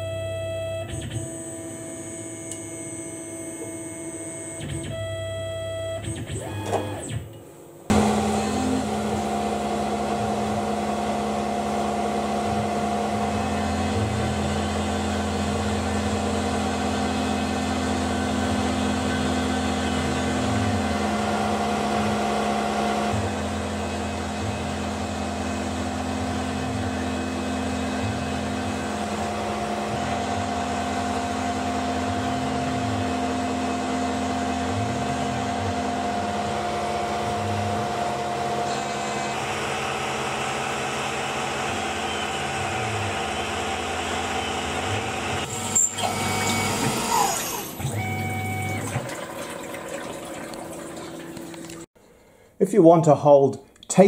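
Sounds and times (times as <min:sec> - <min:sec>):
rising and falling motor tones: 0:00.0 - 0:51.9
milling machine cutting metal: 0:07.9 - 0:51.6.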